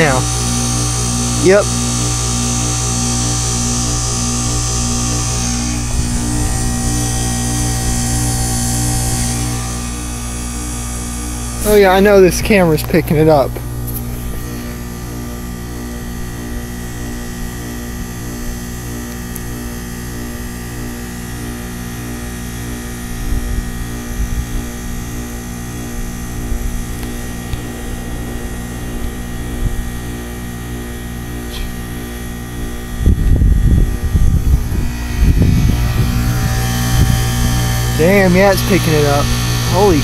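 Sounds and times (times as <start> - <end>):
loud low rumbling bursts: 0.0 - 22.0, 22.8 - 40.0
heat pump compressor humming: 0.0 - 40.0.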